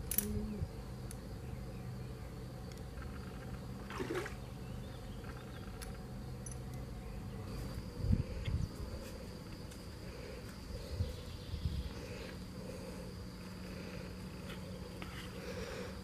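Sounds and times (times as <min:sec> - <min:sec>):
insect buzzing: 0:00.0 - 0:16.0.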